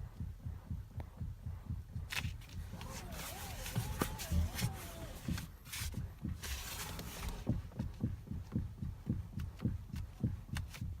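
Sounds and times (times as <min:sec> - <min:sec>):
rhythmic low knocking: 0:00.0 - 0:11.0.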